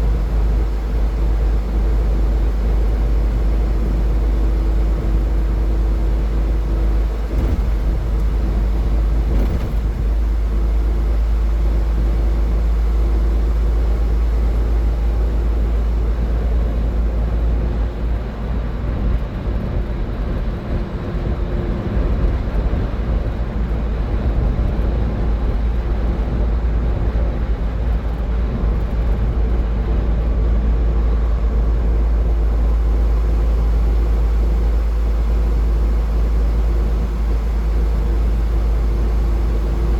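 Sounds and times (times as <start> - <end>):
engine hum: 0.0 - 39.9
road and tyre noise: 0.0 - 39.9.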